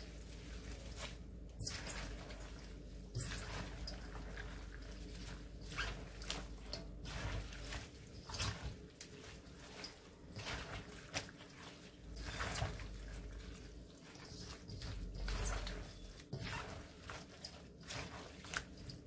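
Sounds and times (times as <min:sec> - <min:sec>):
squishing and rustling cabbage: 0:00.0 - 0:19.0.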